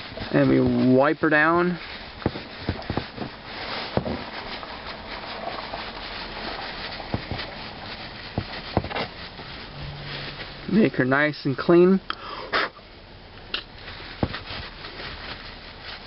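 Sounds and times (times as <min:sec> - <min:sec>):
paper towel rustling: 0:00.0 - 0:12.0, 0:13.6 - 0:16.0.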